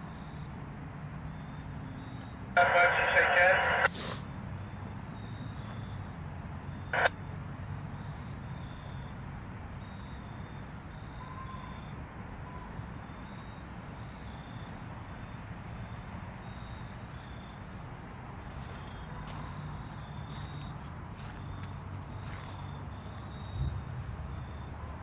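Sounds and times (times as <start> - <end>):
faint high beeping: 1.3 - 3.9, 4.6 - 9.2, 9.8 - 17.7, 18.7 - 24.8.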